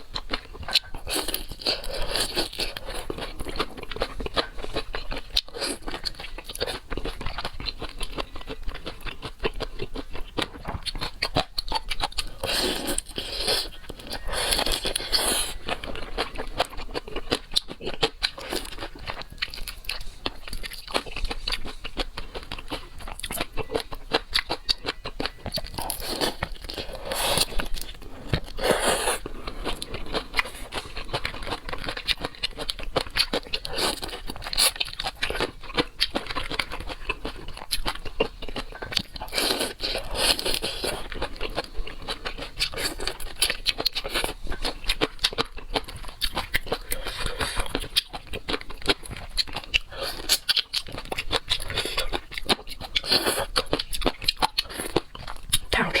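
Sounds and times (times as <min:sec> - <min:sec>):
crunching and chewing seafood: 0:00.0 - 0:56.0.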